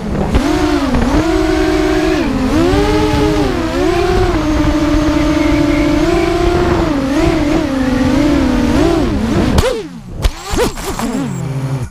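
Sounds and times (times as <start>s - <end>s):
drone motors whining: 0.0s - 11.9s.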